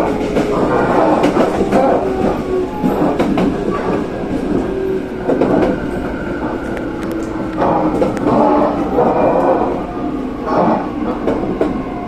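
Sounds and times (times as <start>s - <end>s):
rail clicks: 0.0s - 12.0s
train wheels rumbling on rails: 0.0s - 12.0s.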